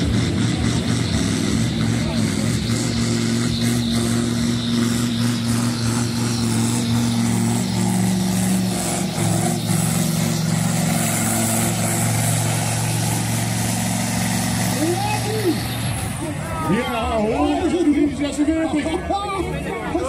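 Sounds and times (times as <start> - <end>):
diesel engine under full load: 0.0 - 20.0.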